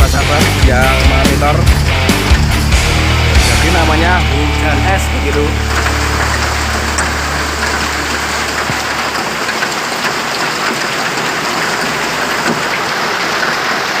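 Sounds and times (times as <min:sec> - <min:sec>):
heavy rain and hail: 0:00.0 - 0:14.0.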